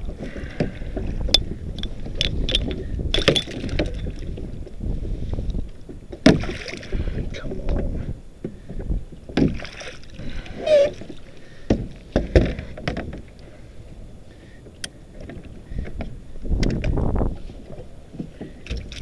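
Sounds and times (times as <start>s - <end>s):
water slapping against hull: 0.0s - 19.0s.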